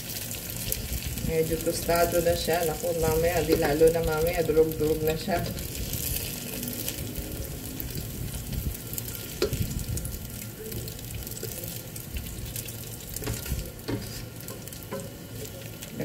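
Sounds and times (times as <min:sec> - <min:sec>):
tofu sizzling in a pot: 0:00.0 - 0:16.0.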